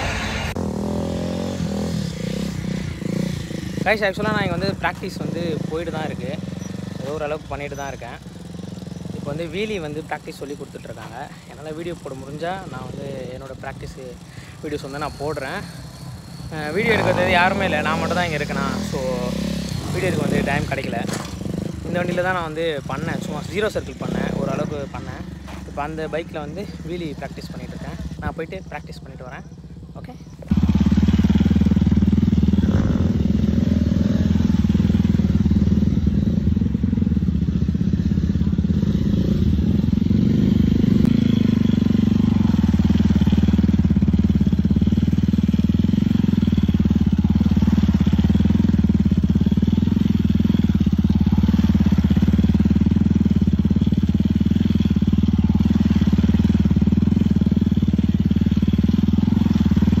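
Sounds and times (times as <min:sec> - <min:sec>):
motorcycle engine running at low revs: 0:00.0 - 1:00.0.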